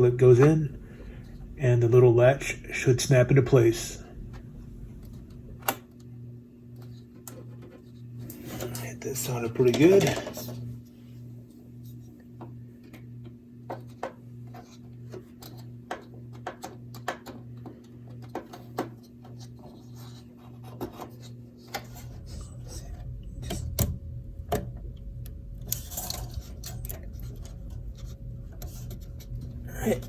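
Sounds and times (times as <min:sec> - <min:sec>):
low pulsing hum: 0:00.0 - 0:16.3, 0:21.4 - 0:30.0.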